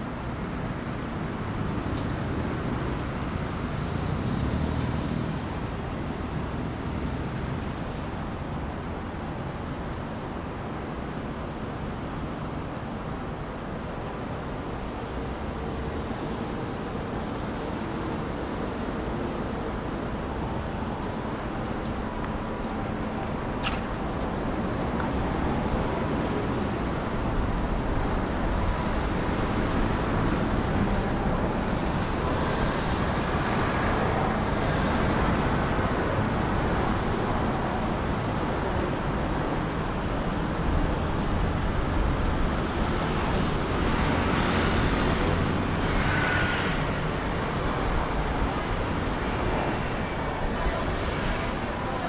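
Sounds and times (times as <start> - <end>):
vehicles passing close by: 0.0 - 10.5, 14.0 - 52.0
road traffic rumble: 0.0 - 52.0.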